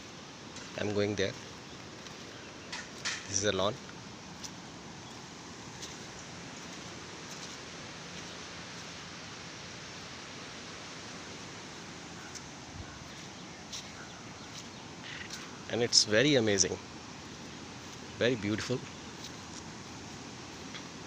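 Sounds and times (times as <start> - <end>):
river water roaring: 0.0 - 21.0.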